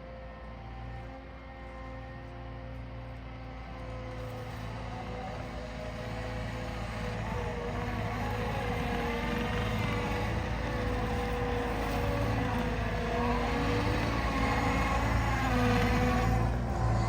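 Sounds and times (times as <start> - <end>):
diesel engine of track loader: 0.0 - 17.0.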